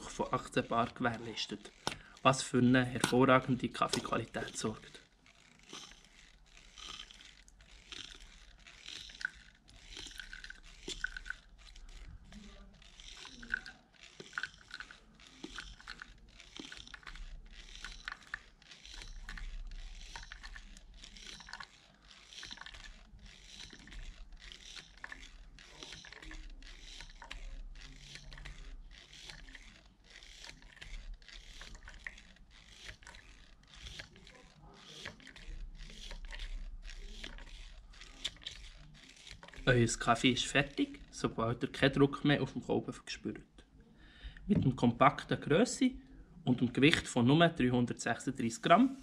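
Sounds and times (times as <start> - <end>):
hand pump piston strokes: 0.0 - 43.4.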